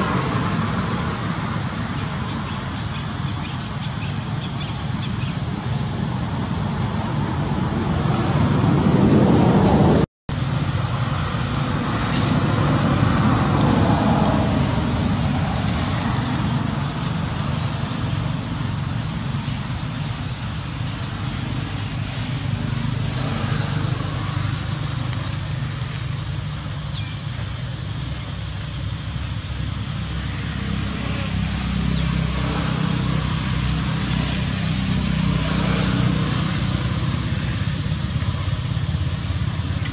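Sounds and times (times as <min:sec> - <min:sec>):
high-pitched hiss: 0:00.0 - 0:39.9.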